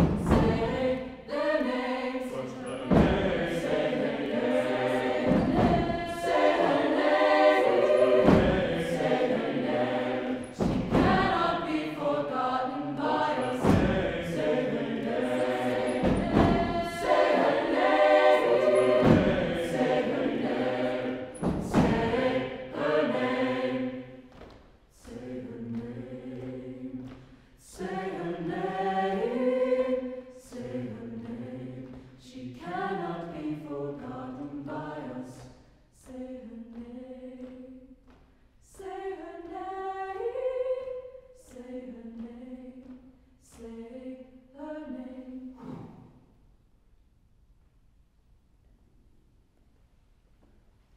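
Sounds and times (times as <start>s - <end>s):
choir singing unaccompanied: 0.0s - 24.4s, 25.0s - 38.0s, 38.7s - 46.0s.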